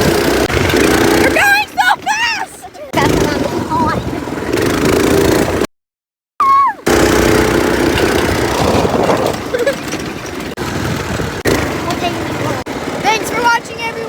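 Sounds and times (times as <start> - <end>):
go-kart engine running: 0.0 - 5.7, 6.8 - 14.0.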